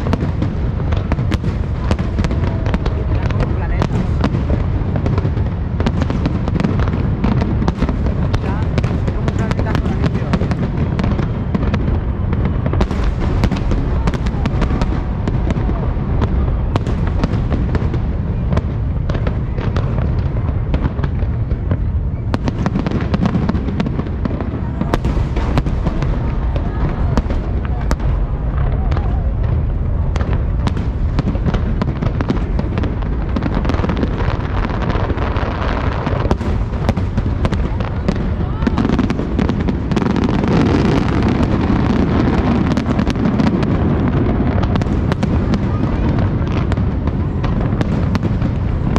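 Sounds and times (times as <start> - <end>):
fireworks bangs and crackles: 0.0 - 48.9
steady low rumble: 0.0 - 48.9.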